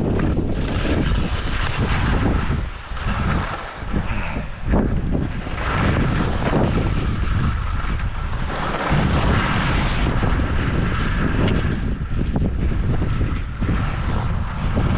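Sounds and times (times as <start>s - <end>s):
heavy low rumble: 0.0s - 14.9s
wind buffeting microphone: 0.0s - 14.9s.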